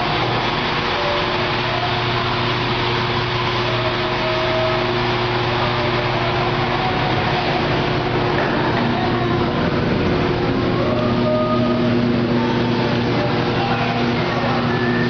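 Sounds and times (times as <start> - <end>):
electric pump hum: 0.0 - 15.0.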